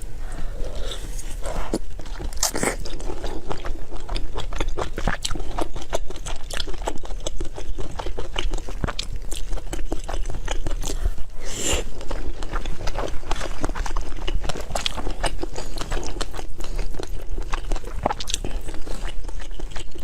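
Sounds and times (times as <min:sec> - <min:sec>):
crunchy chewing of food: 0:00.0 - 0:20.0.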